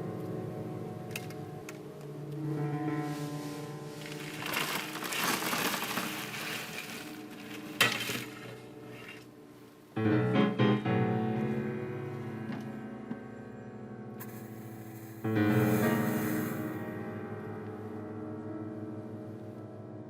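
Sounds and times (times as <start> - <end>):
instrumental background music: 0.0 - 20.0.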